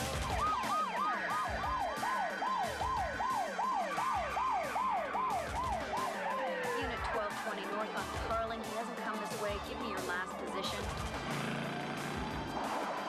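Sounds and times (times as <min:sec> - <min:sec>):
police siren yelping: 0:00.0 - 0:13.0.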